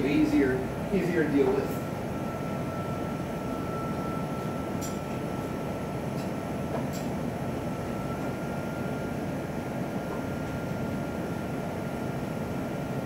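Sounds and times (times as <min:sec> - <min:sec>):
machine running with high whine: 0:00.0 - 0:13.0.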